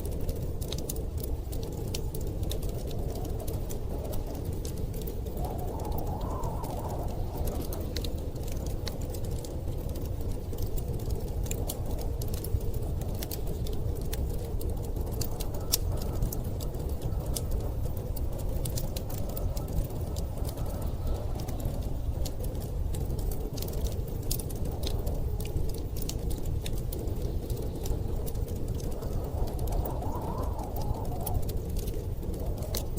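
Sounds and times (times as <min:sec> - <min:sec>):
low rumble of storm wind: 0:00.0 - 0:32.9
wood fire crackling: 0:00.0 - 0:32.9.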